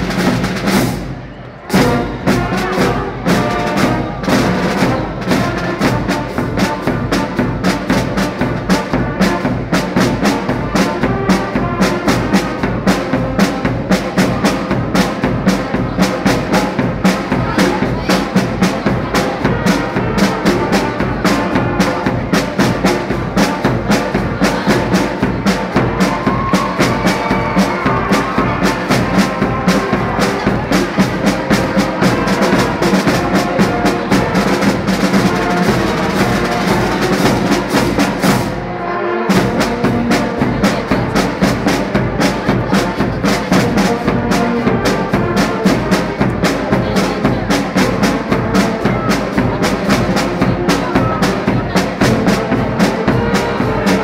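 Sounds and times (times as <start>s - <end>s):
brass and drum march music: 0.0s - 54.0s.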